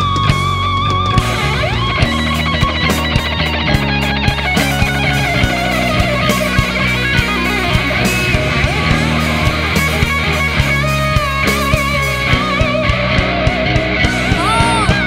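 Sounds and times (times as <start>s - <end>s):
bass guitar: 0.0s - 15.0s
drums: 0.0s - 15.0s
electric guitar lead line: 0.0s - 15.0s
keyboards: 0.0s - 15.0s.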